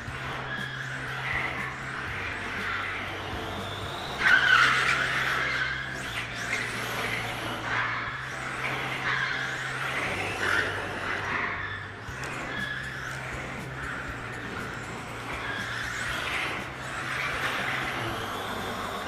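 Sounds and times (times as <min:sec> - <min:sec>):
rc car motor and tyres: 0:00.0 - 0:19.0.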